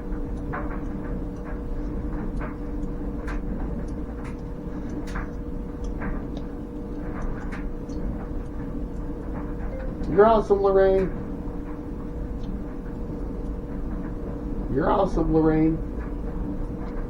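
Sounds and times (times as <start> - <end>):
light clicks and ticks: 0.0 - 17.0
low mechanical hum: 0.0 - 17.0.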